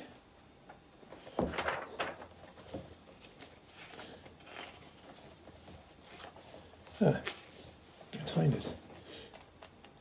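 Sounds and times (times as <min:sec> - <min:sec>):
book pages rustling: 0:01.1 - 0:10.0.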